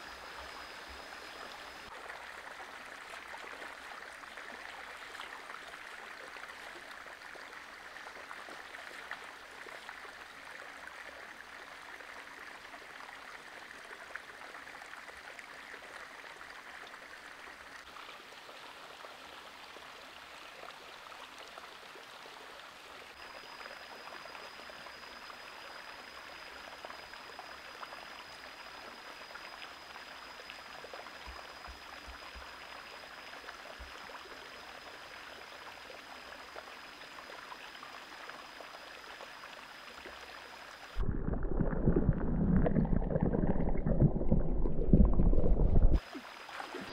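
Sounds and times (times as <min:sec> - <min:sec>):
stream water over rocks: 0:00.0 - 0:46.9.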